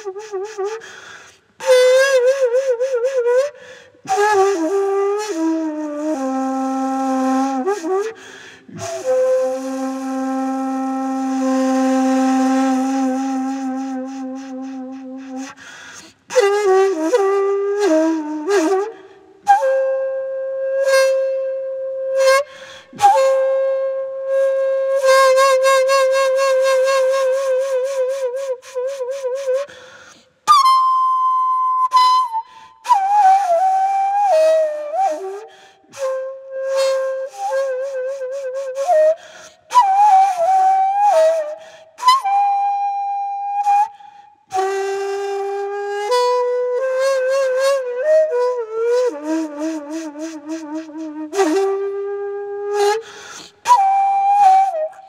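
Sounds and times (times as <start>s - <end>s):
bamboo flute playing: 0.0s - 55.0s.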